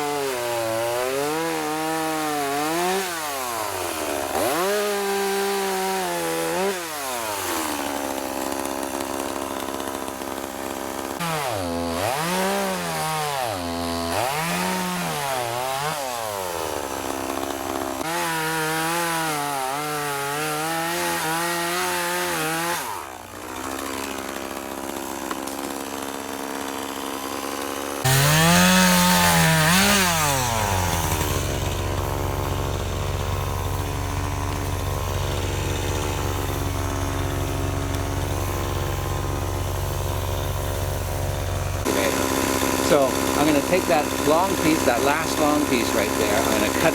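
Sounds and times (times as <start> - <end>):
chainsaw cutting into log: 0.0 - 46.9.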